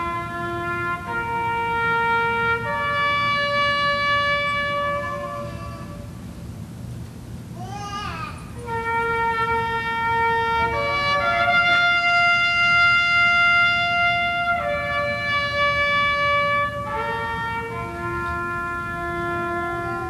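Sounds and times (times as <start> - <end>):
trumpet playing slow solo: 0.0 - 6.3, 8.6 - 20.0.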